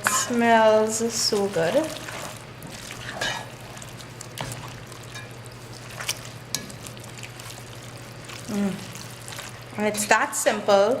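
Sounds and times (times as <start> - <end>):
wet sauce stirring: 0.0 - 10.7.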